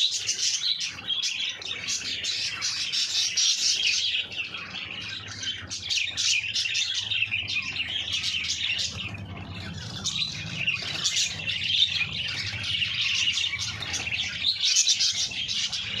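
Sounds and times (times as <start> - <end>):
lovebirds chirping: 0.0 - 16.0.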